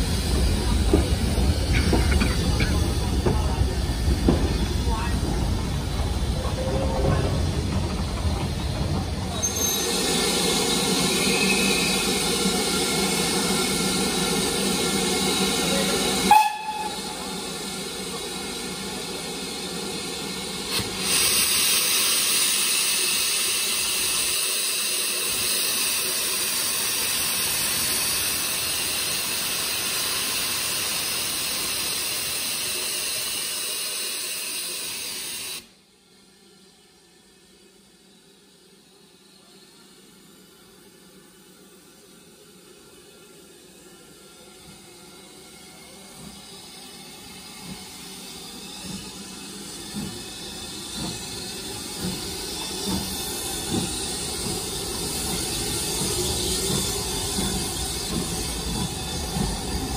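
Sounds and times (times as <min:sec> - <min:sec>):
locomotive steam hissing: 0:00.0 - 0:59.9.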